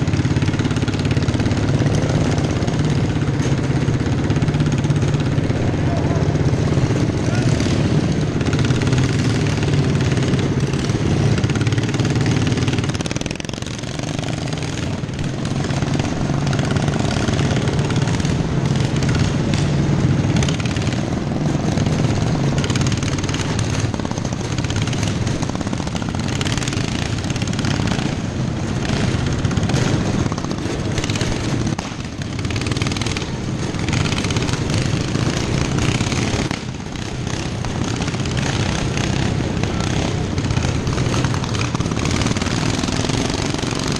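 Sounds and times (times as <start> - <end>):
lawnmower engines running hard: 0.0 - 43.9.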